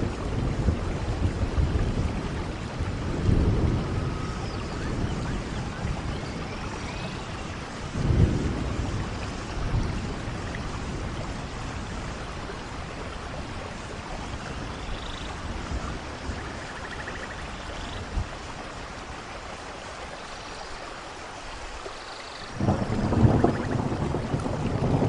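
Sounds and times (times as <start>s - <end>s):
thunder rumble: 0.0s - 18.4s, 22.5s - 25.0s
steady rainfall: 0.0s - 25.0s.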